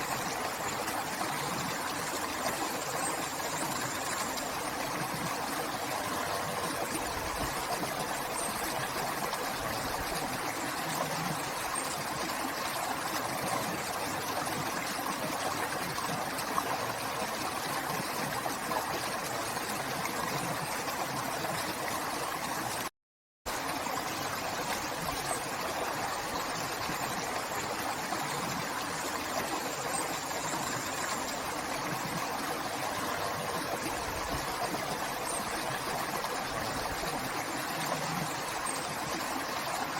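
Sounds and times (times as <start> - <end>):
river water flowing: 0.0 - 22.9, 23.5 - 39.9.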